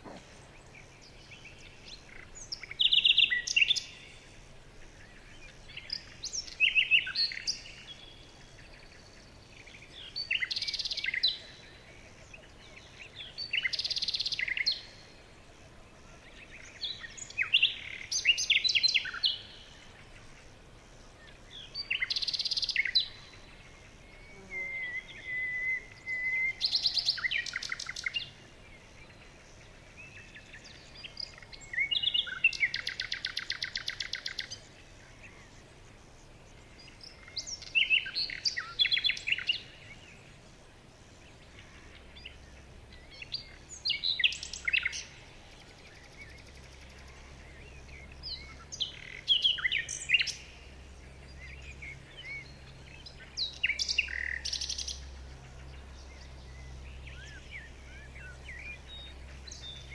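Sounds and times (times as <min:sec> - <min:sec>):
faint background hiss: 0:00.0 - 0:59.9
songbirds singing: 0:00.0 - 0:59.9.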